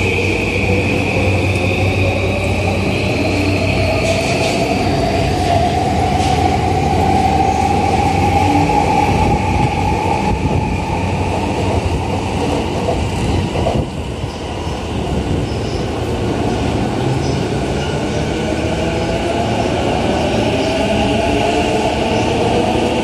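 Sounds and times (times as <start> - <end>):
electric train low rumble: 0.0 - 23.0.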